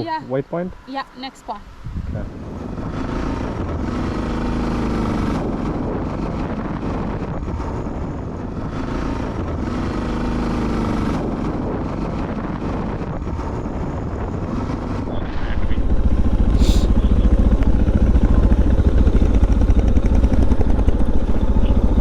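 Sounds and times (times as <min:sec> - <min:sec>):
motorcycle engine accelerating: 0:02.0 - 0:22.0.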